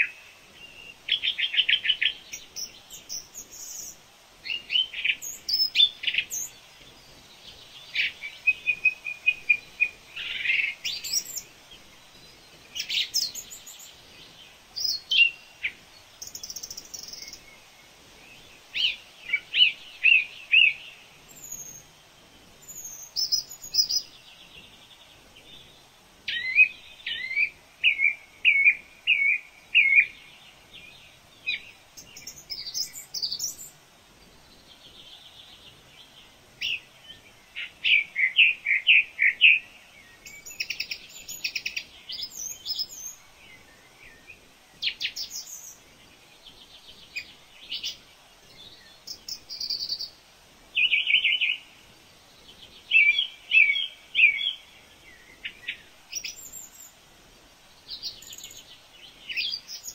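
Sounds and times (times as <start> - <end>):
wild birds singing and calling: 0.0 - 59.9.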